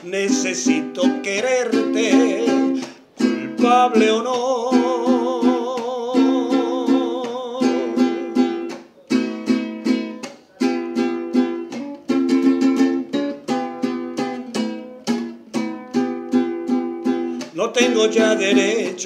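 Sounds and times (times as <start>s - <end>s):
plucked string instrument strumming: 0.0s - 19.0s.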